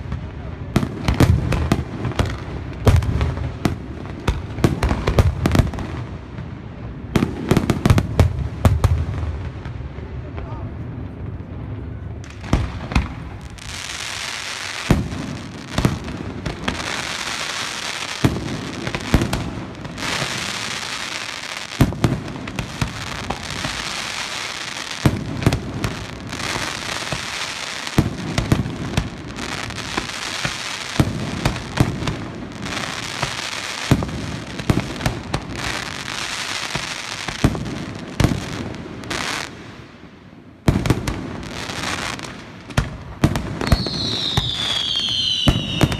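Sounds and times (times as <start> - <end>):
crackling of burning fireworks: 0.0 - 45.9.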